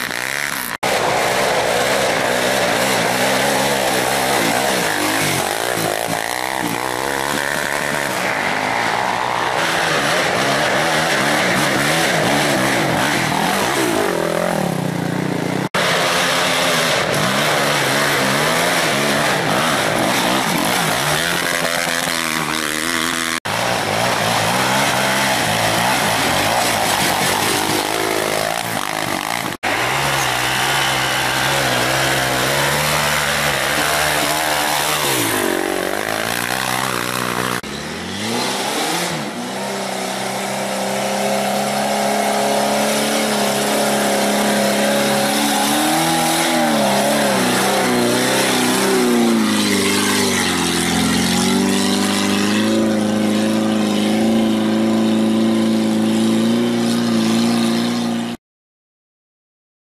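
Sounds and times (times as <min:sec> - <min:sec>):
four-wheel drive engine revving: 0:00.0 - 0:08.3, 0:09.0 - 0:58.4
quad engine revving: 0:00.0 - 0:58.4.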